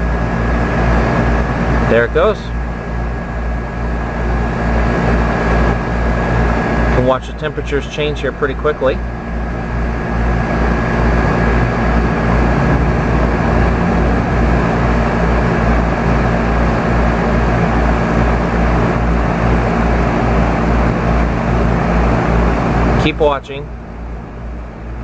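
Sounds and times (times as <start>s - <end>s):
fan rushing: 0.0s - 25.0s
heat pump compressor hum: 0.0s - 25.0s.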